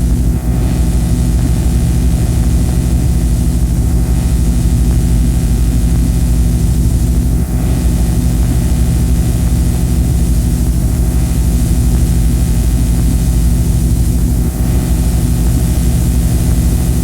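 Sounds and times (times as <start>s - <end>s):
loud low drone hum: 0.0s - 17.0s.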